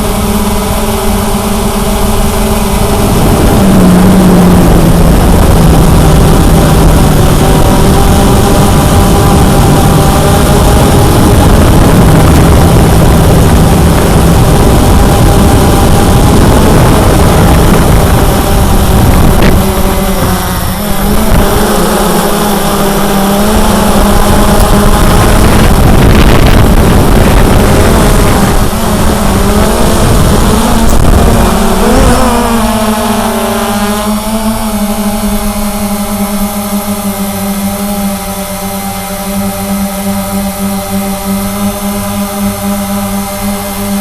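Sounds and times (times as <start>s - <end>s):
drone motors humming: 0.0s - 44.0s.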